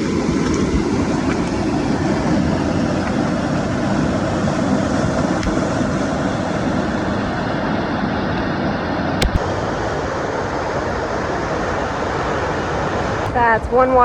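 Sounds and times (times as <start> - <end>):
waterfall rushing: 0.0 - 7.9, 8.6 - 14.0.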